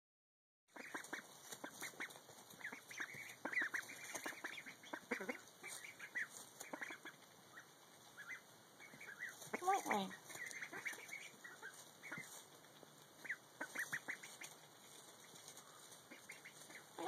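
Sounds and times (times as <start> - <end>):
ducklings peeping: 0.7 - 17.0.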